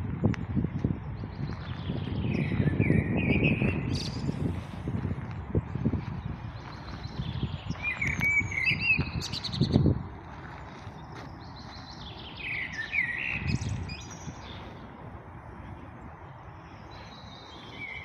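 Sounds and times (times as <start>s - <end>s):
songbird singing: 1.0s - 4.7s, 5.9s - 18.0s.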